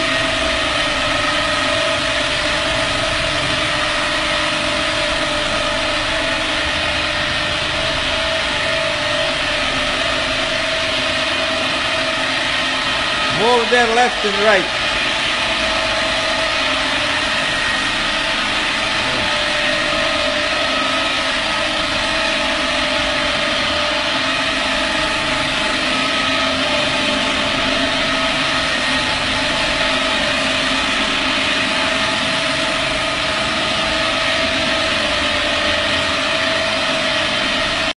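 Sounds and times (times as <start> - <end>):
concrete floor grinder running: 0.0 - 38.0.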